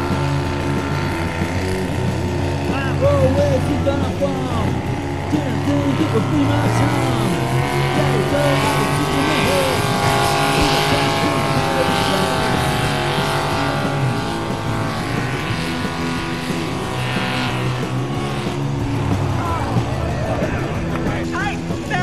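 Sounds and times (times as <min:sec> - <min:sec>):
tractor engine running at high revs: 0:00.0 - 0:22.0.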